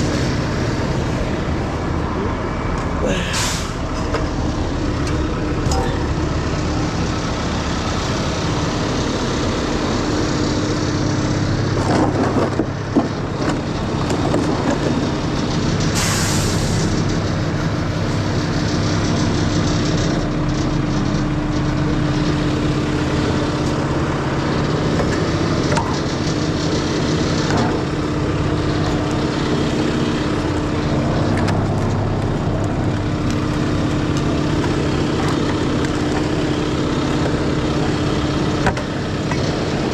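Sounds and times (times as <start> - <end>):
heavy truck engine running: 0.0 - 39.9.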